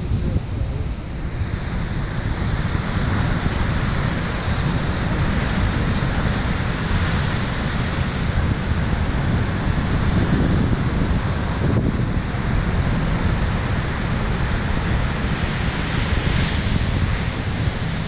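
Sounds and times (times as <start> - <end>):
sea surf: 0.0 - 18.0
wind buffeting microphone: 0.0 - 18.0.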